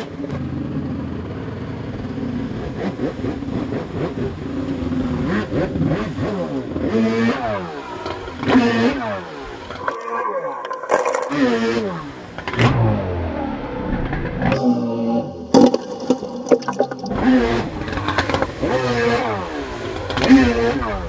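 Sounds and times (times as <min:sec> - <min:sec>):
jet ski engine revving: 0:00.0 - 0:15.6, 0:16.3 - 0:21.0.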